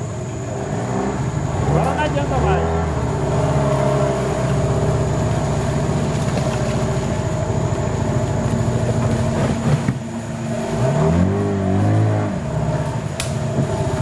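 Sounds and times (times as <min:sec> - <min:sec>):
boat engine throbbing: 0:00.0 - 0:14.0.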